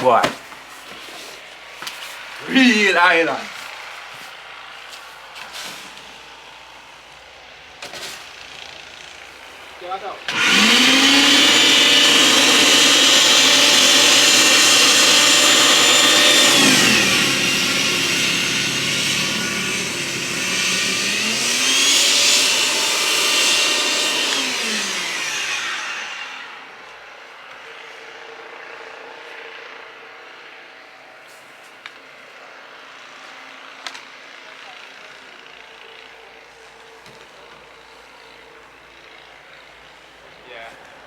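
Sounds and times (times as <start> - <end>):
snow blower motor whine: 1.2 - 41.0.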